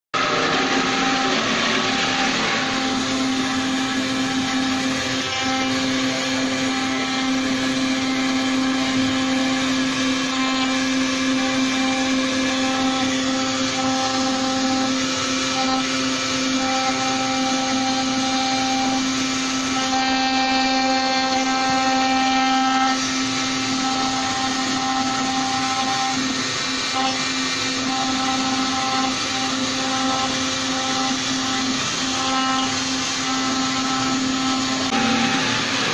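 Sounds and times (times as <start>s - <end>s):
router motor humming: 0.1s - 35.9s
router bit cutting wood hiss: 0.2s - 35.9s.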